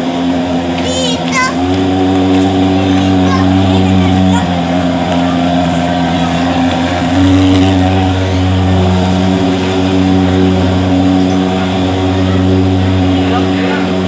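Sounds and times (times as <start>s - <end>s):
fogging machine engine drone: 0.0s - 14.0s.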